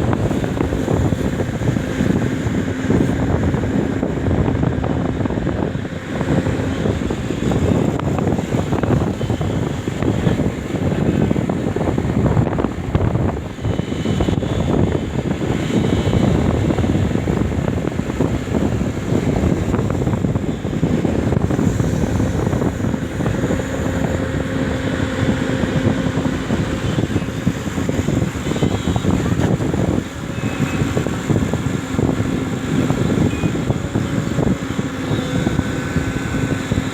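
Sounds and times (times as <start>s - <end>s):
excavator diesel engine under load: 0.0s - 36.9s
steady hum: 0.0s - 36.9s.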